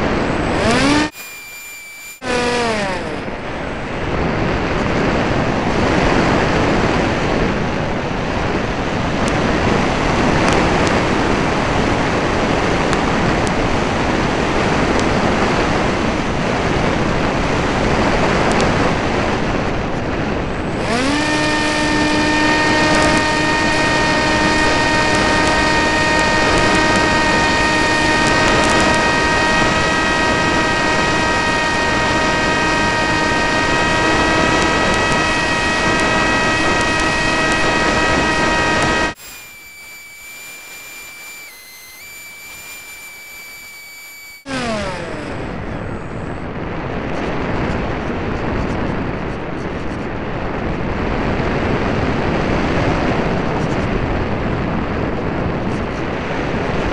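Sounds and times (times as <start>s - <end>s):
model plane motor whine: 0.0s - 46.5s.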